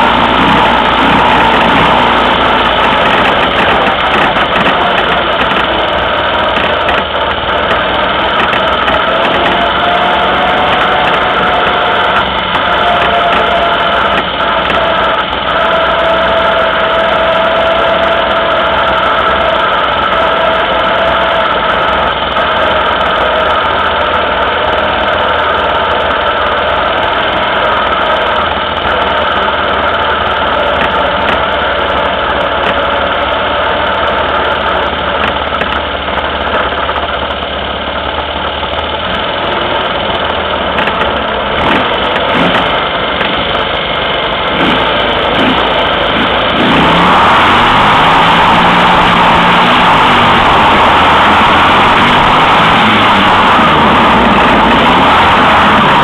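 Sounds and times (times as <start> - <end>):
buggy engine at low revs: 0.0 - 56.0
other buggy engines: 0.0 - 56.0.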